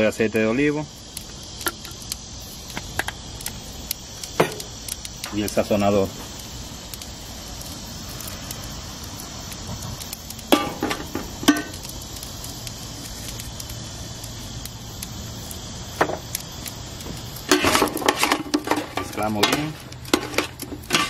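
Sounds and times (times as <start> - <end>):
crackling hiss: 0.0 - 21.0.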